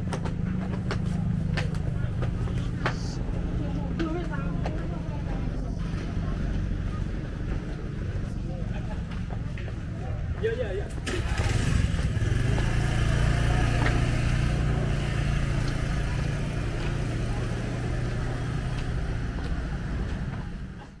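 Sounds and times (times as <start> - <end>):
market ambience: 0.0 - 21.0
vehicle engine running: 0.0 - 21.0.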